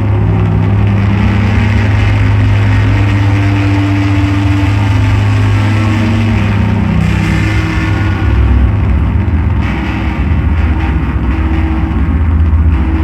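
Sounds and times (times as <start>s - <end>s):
dense wash of noise: 0.0s - 13.0s
held tones shifting slowly: 0.0s - 13.0s
low drone hum: 0.0s - 13.0s.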